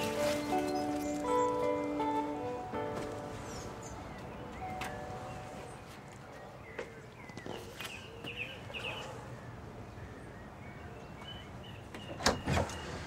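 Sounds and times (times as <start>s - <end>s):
small birds chirping: 0.0s - 2.0s, 3.4s - 13.0s.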